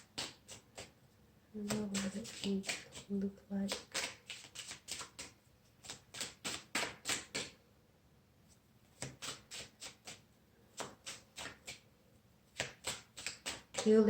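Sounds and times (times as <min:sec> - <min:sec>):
cards being shuffled: 0:00.0 - 0:01.0, 0:01.6 - 0:07.6, 0:08.8 - 0:11.8, 0:12.4 - 0:14.0.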